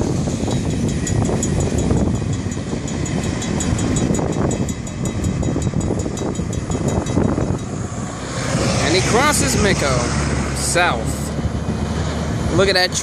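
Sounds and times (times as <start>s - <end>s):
fast high ticking: 0.0s - 11.0s
freight train rumbling: 0.0s - 13.0s.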